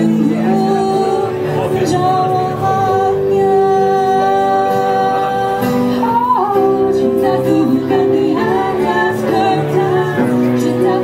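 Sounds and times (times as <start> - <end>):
acoustic guitar: 0.0 - 11.0
women singing: 0.0 - 11.0.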